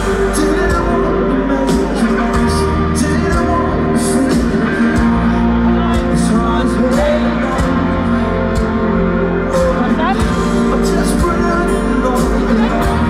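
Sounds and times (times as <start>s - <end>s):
drums and cymbals: 0.0s - 13.0s
live rock-pop band playing: 0.0s - 13.0s
person singing: 0.0s - 13.0s.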